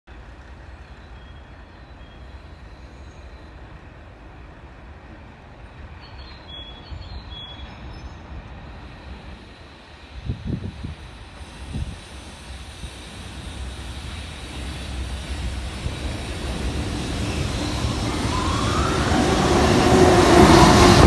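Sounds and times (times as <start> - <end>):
freight train rumble: 0.1 - 21.0.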